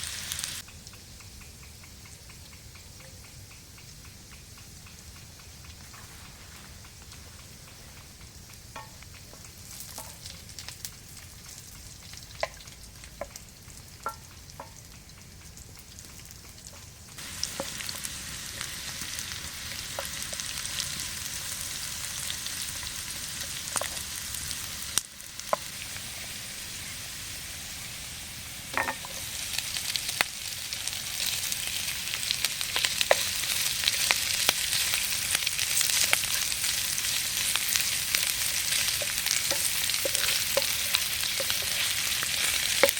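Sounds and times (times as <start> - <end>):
small crackles and pops: 0.0 - 26.3, 28.7 - 42.9
food sizzling in a pan: 0.0 - 42.9.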